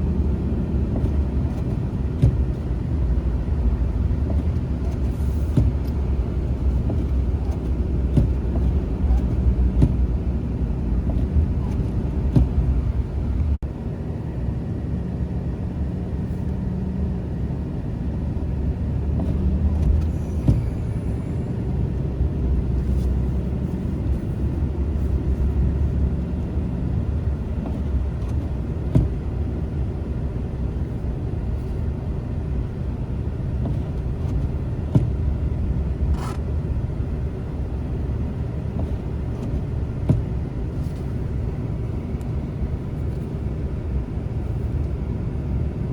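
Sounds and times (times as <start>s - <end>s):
car engine rumble: 0.0s - 45.9s
road noise: 0.0s - 45.9s.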